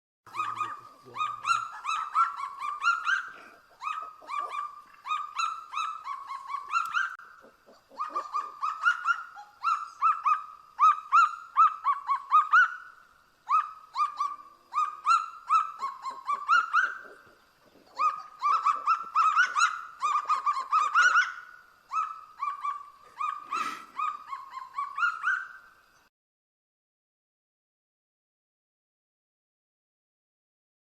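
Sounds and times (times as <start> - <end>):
bird calling: 0.3 - 26.1.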